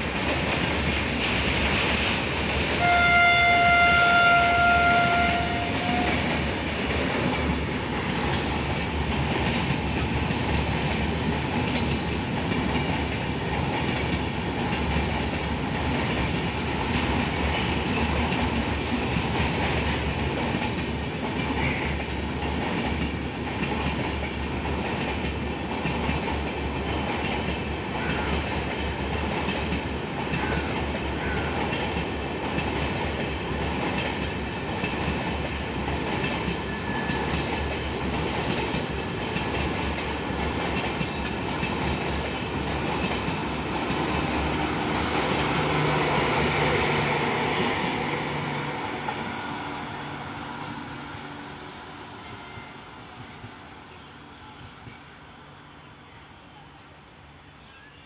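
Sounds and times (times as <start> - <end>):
train wheels rumbling on rails: 0.0 - 55.4.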